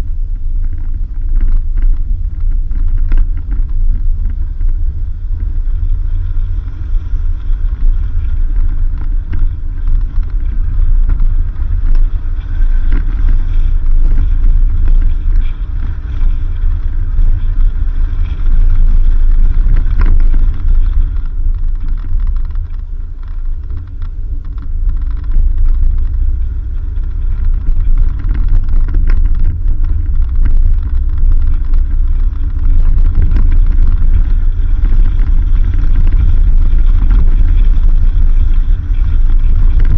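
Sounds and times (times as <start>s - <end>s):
knocks and clicks from rough road: 0.0s - 39.9s
vehicle engine and tyres rumbling: 0.0s - 39.9s.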